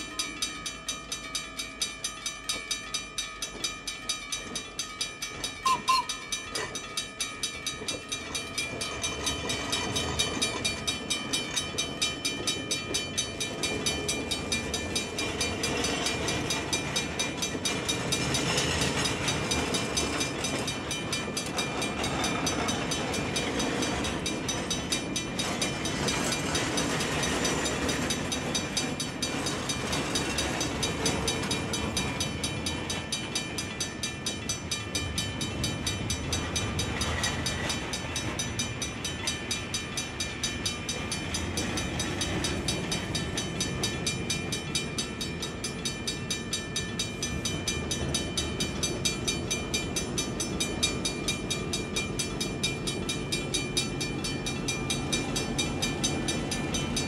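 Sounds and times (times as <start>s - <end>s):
crossing signal bell ringing: 0.0s - 57.0s
train wheels rolling on rails: 0.0s - 57.0s.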